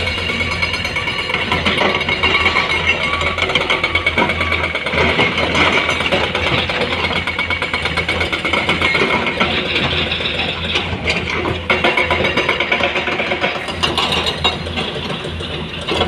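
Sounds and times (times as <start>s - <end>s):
heavy diesel engines running: 0.0s - 16.0s.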